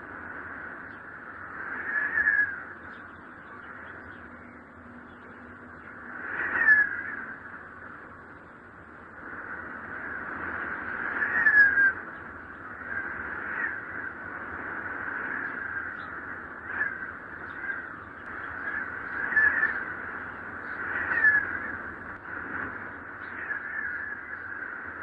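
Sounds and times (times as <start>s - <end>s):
whistling wind gusts: 0.0s - 25.0s.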